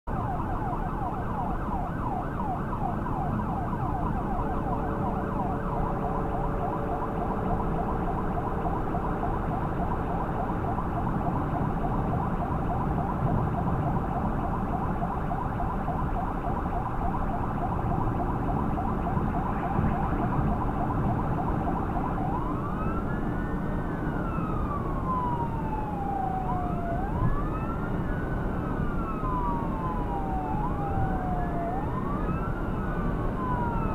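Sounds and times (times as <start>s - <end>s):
road and engine noise: 0.0s - 33.9s
emergency siren yelping and wailing: 0.1s - 33.9s.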